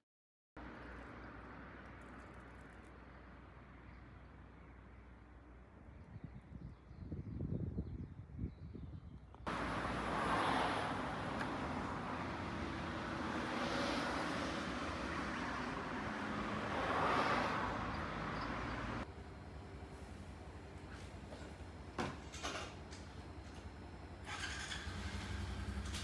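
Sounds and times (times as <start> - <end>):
vehicles passing: 0.6 - 6.1, 9.4 - 26.0
street traffic noise: 0.6 - 6.2, 9.3 - 26.0.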